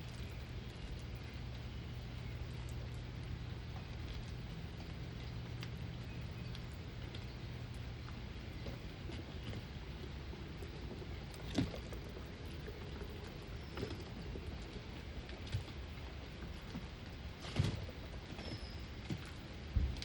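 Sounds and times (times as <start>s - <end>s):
rain falling: 0.0s - 16.6s.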